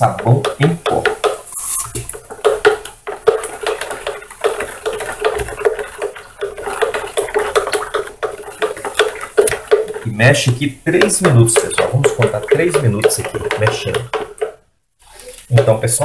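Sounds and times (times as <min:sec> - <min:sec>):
spoon scraping plastic jug: 0:00.0 - 0:16.0.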